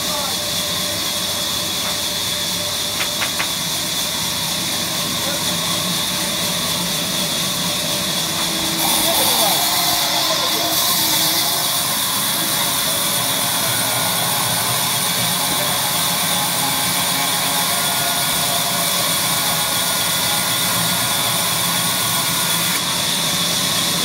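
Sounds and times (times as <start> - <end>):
band saw cutting log: 0.0 - 24.0.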